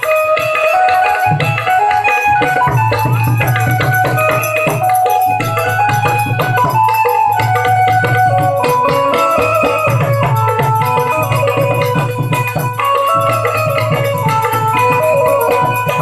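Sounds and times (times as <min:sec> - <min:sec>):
jingling rattle percussion: 0:00.0 - 0:16.0
melody instrument tune: 0:00.0 - 0:16.0.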